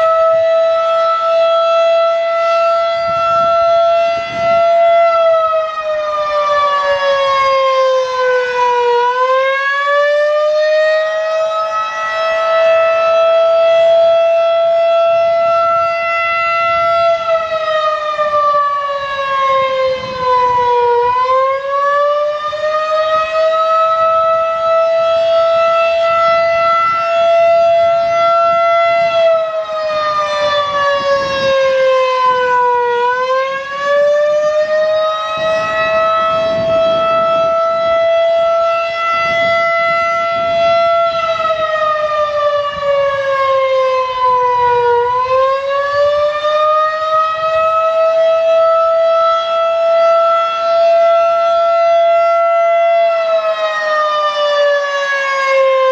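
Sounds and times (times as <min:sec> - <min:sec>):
outdoor warning siren: 0:00.0 - 0:55.9.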